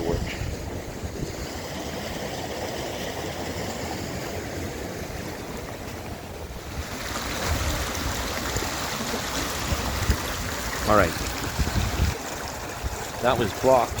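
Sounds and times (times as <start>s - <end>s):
wind buffeting microphone: 0.0s - 2.3s, 4.2s - 14.0s
canal water rushing: 0.0s - 14.0s.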